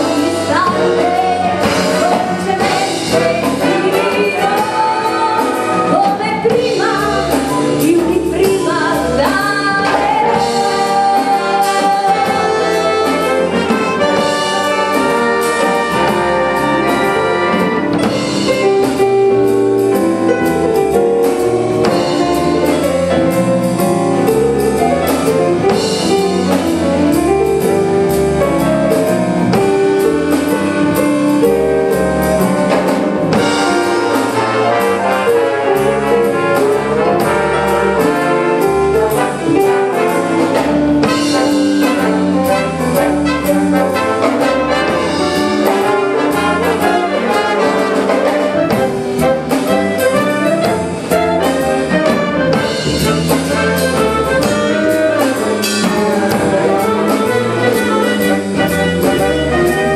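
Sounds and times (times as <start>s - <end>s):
brass and saxophones playing: 0.0s - 59.9s
drum kit beat: 0.0s - 59.9s.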